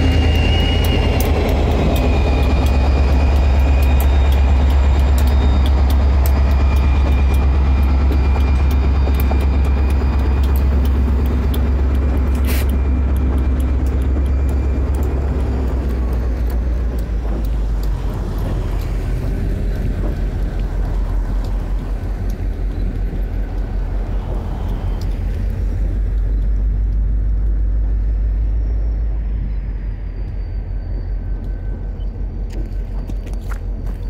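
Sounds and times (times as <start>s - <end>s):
diesel locomotive rumbling: 0.0s - 34.0s.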